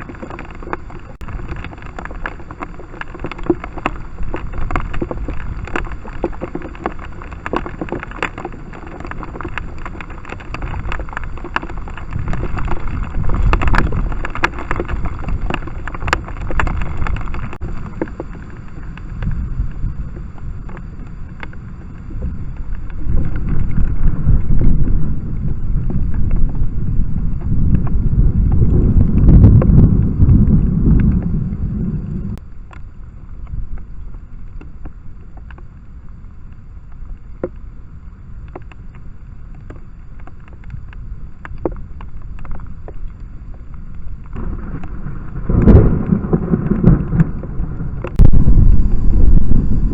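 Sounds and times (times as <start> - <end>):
wind buffeting microphone: 0.0 - 32.4, 40.6 - 49.9.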